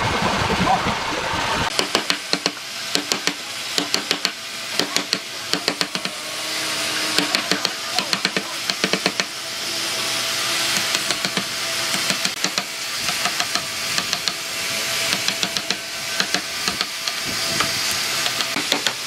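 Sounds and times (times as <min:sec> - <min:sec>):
steady hiss: 0:01.6 - 0:19.0.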